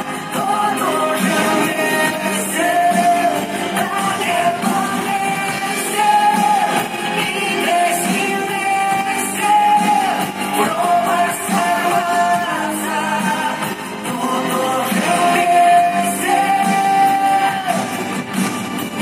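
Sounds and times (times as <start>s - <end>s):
person singing long notes: 0.0s - 18.2s
instrumental backing: 0.0s - 19.0s.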